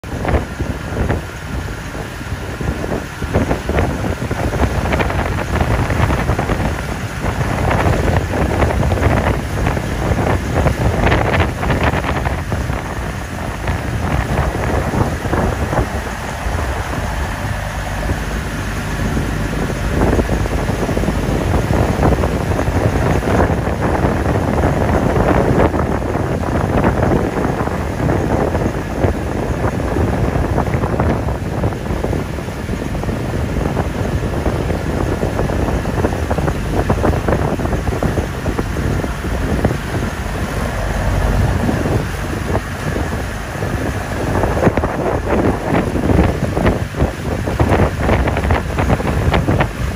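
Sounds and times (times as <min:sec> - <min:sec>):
motor boat engine running: 0:00.0 - 0:49.9
wind buffeting microphone: 0:00.0 - 0:49.9.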